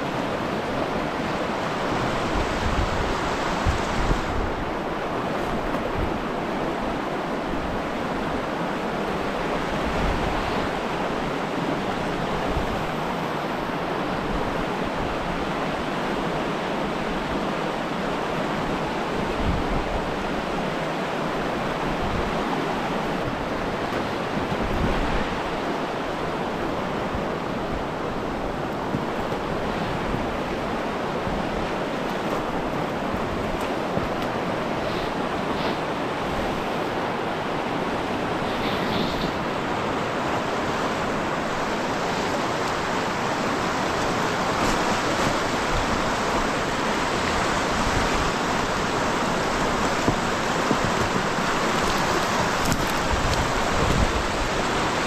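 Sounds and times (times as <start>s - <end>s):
river rapids rushing: 0.0s - 55.0s
wind rumble on microphone: 0.0s - 55.0s.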